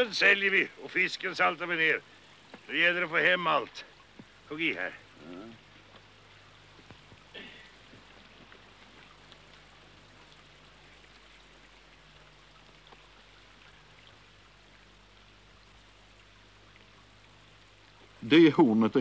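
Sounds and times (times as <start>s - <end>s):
film soundtrack hiss: 0.0s - 19.0s
low hum: 0.0s - 19.0s.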